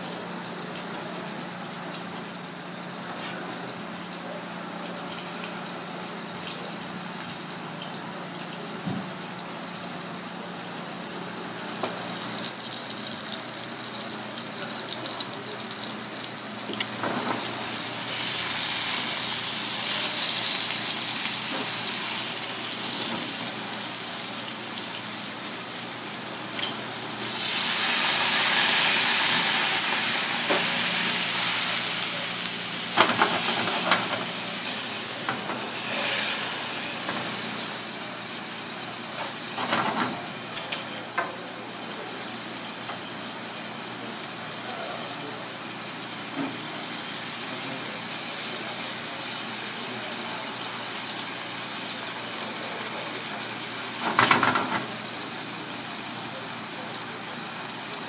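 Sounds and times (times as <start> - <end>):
fish sizzling in oil: 0.0 - 58.0.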